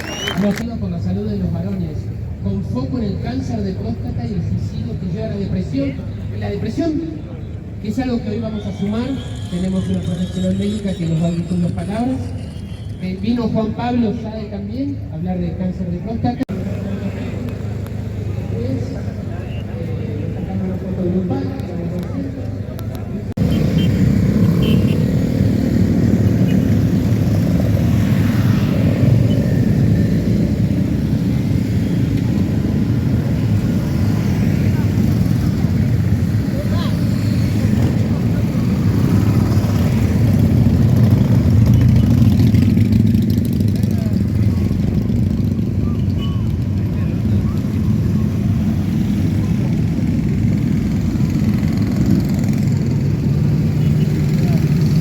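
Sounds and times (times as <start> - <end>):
many motorcycle engines rumbling: 0.0 - 55.0.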